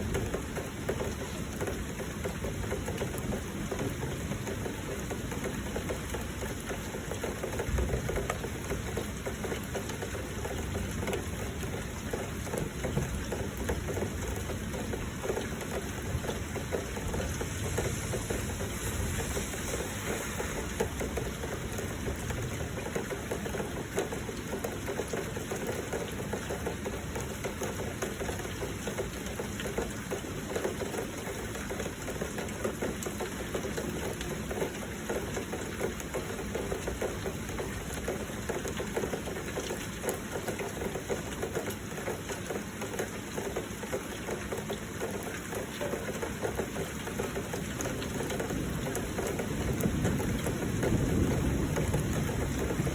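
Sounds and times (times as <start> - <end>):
heavy rain patter: 0.0 - 52.9.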